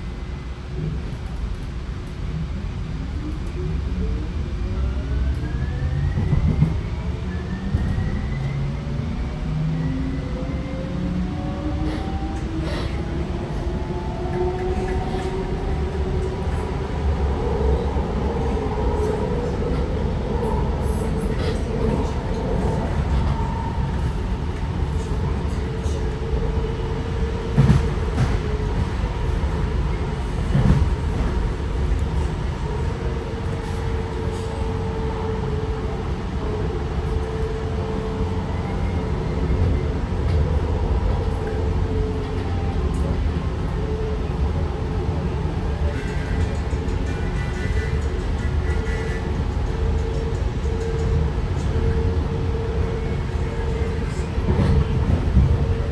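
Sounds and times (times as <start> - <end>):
train rumble: 0.0 - 55.9.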